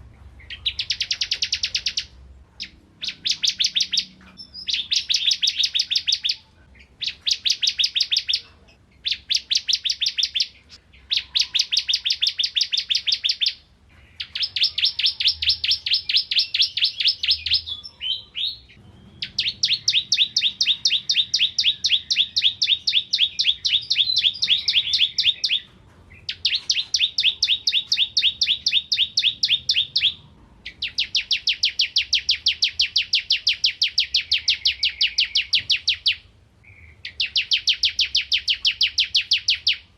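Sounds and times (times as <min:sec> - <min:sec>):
prinia singing sharp chirps: 0:00.0 - 0:39.9.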